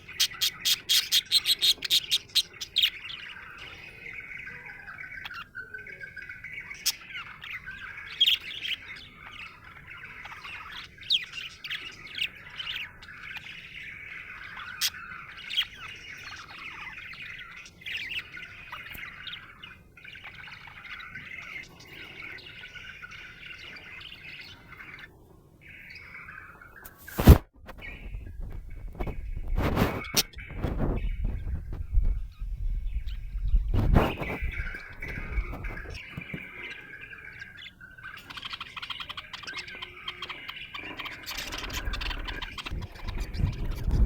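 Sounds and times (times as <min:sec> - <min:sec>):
sharp budgerigar chirps: 0:00.0 - 0:44.0.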